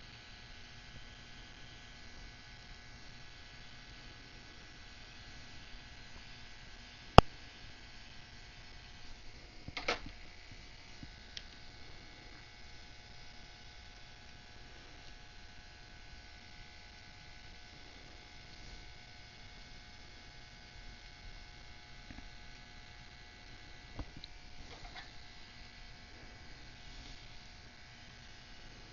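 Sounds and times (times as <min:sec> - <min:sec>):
steady electrical hum: 0:00.0 - 0:28.9.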